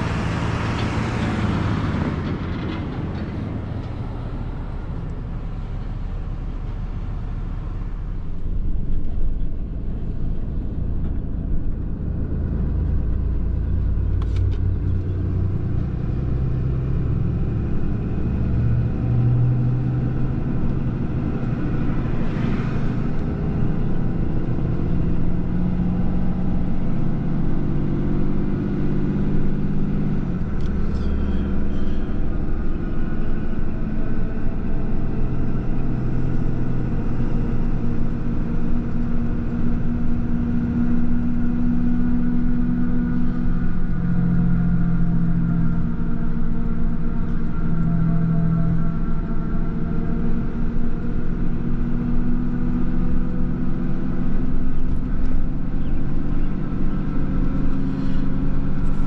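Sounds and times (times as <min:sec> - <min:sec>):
truck engine hum: 0:00.0 - 0:59.0.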